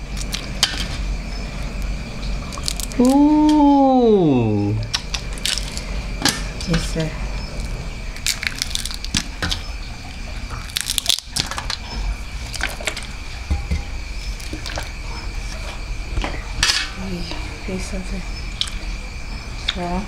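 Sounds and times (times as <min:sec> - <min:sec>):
steady high-pitched hum: 0:00.0 - 0:20.0.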